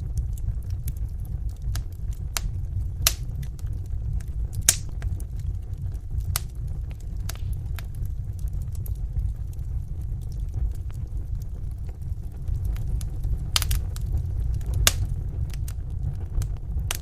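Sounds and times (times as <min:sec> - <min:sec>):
fire crackling and popping: 0:00.0 - 0:17.0
fire rumbling in a fireplace: 0:00.0 - 0:17.0.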